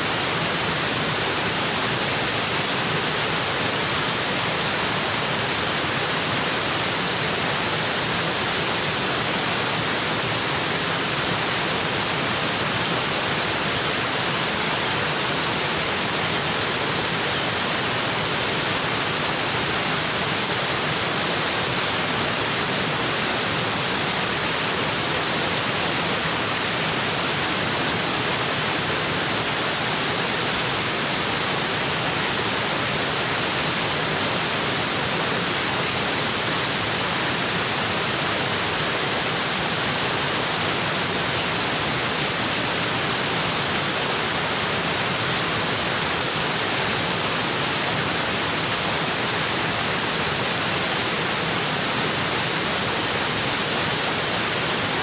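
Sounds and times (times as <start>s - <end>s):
waterfall splashing over rocks: 0.0s - 55.0s.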